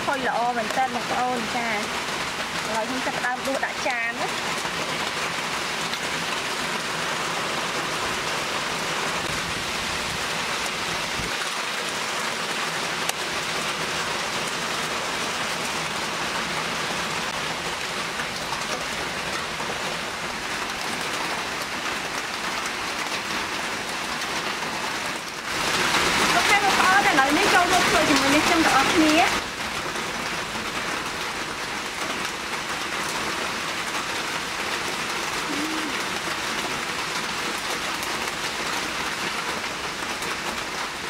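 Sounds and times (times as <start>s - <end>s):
rain falling on wet ground: 0.0s - 41.0s.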